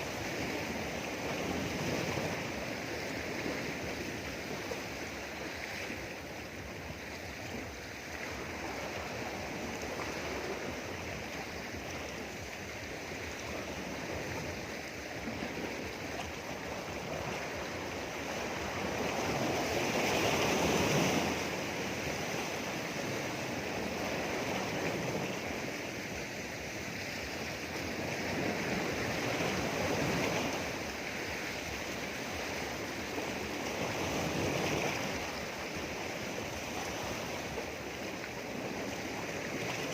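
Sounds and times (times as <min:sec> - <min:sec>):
sea waves washing against rocks: 0:00.0 - 0:39.9.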